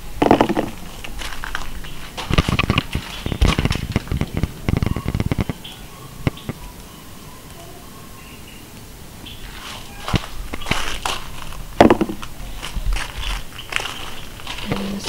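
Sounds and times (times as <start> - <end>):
tomato vines rustling: 0.0 - 15.0.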